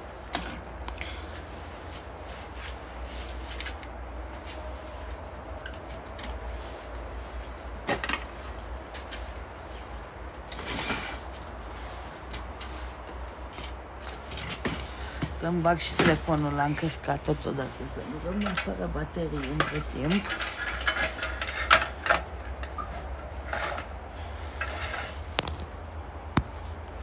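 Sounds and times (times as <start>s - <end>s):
knocks and rustles of handling: 0.0s - 27.0s.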